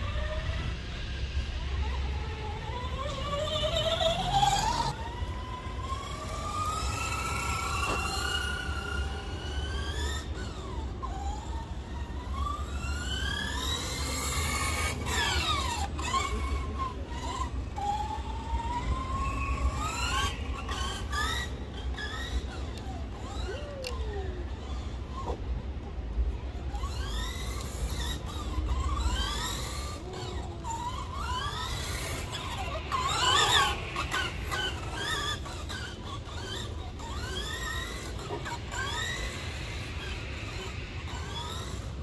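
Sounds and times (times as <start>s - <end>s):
low steady rumble: 0.0s - 42.0s
toy car motor whining: 0.0s - 42.0s.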